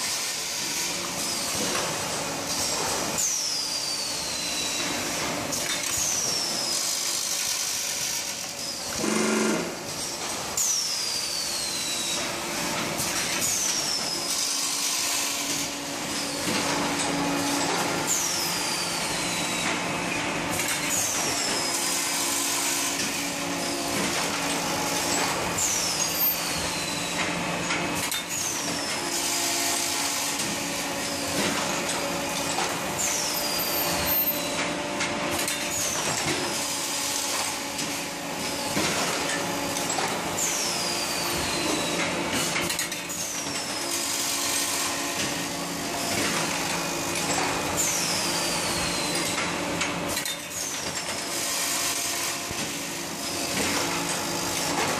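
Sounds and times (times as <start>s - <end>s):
machine mechanical hum: 0.0s - 54.9s.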